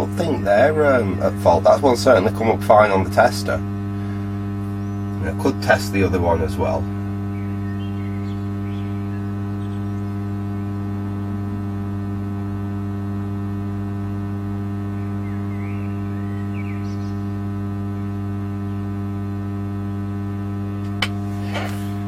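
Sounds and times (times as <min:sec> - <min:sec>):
amplifier mains hum: 0:00.0 - 0:22.0.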